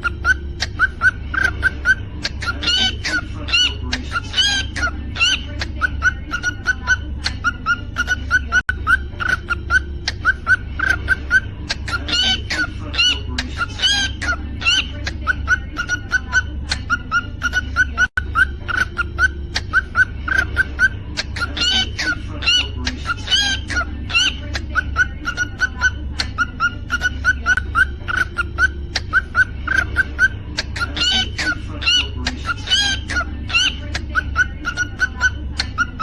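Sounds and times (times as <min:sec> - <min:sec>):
cockatiel chirping and whistling: 0:00.0 - 0:36.0.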